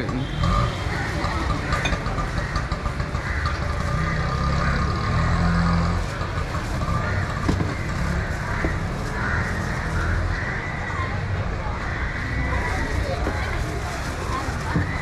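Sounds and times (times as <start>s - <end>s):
distant chatter: 0.0s - 15.0s
vehicle engines rumbling: 0.0s - 15.0s.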